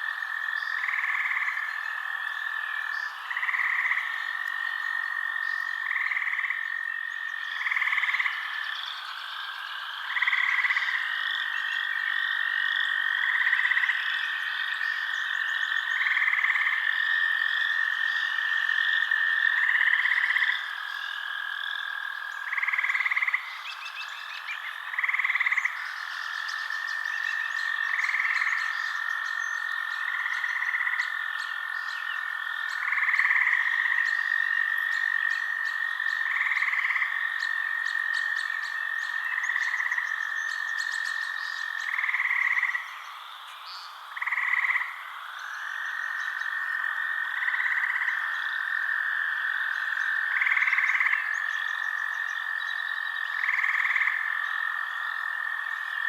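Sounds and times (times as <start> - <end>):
frog calls: 0.0 - 56.0
frogs trilling: 0.0 - 56.0
high frog chirping: 0.0 - 56.0.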